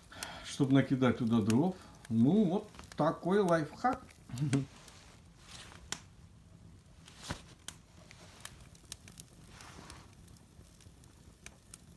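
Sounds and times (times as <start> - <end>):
soft fire hiss: 0.0 - 11.9
wood fire pops and cracks: 0.0 - 11.9.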